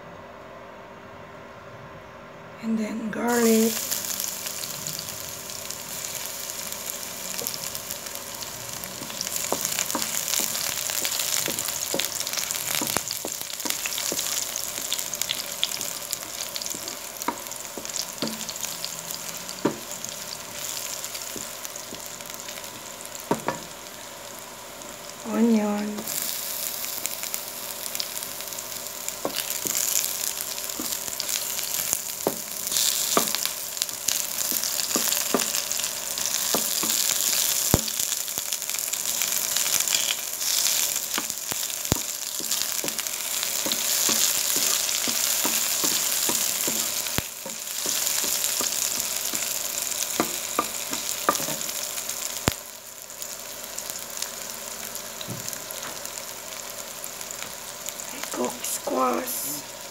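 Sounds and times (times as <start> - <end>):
garlic sizzling in hot oil: 3.2 - 59.9.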